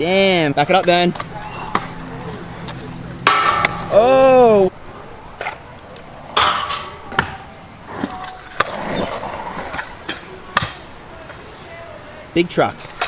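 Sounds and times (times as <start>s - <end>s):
scooter wheels rolling on concrete: 0.0s - 13.0s.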